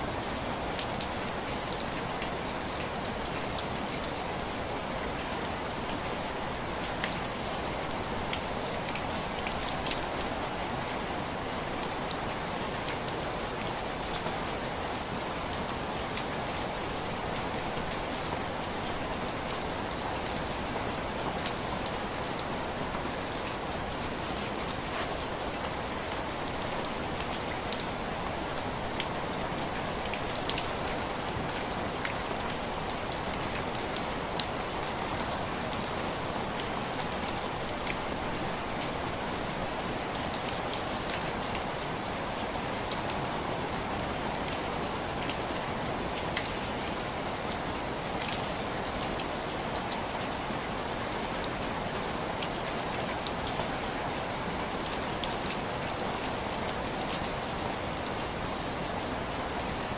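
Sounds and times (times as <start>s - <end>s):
rain hissing on window glass: 0.0s - 59.9s.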